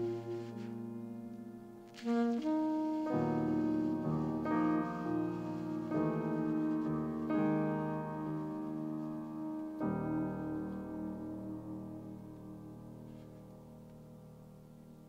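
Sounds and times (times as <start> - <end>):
alto saxophone long notes: 0.0 - 12.2
piano chords: 0.0 - 15.0.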